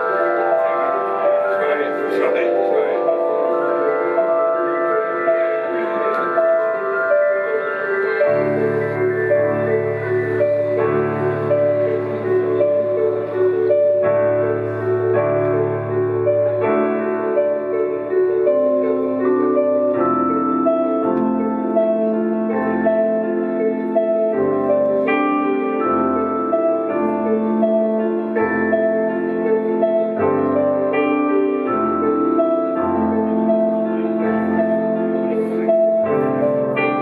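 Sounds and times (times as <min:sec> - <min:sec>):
slow held keyboard chords: 0:00.0 - 0:37.0.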